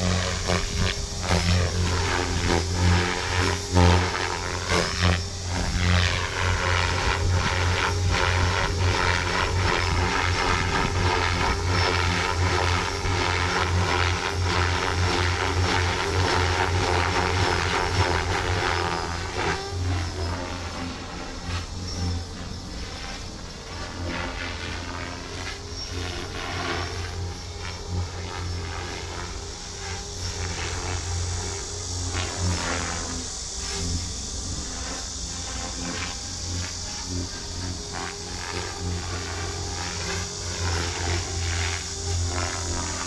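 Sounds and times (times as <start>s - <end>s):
model helicopter rotor droning: 0.0s - 43.0s.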